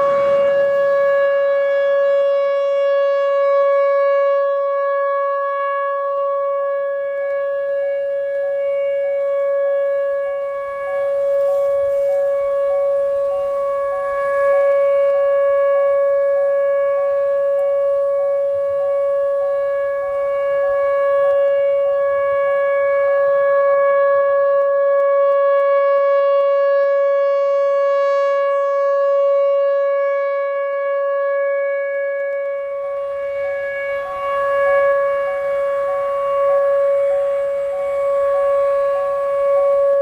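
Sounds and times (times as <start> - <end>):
rotating siren steady tone: 0.0 - 40.0.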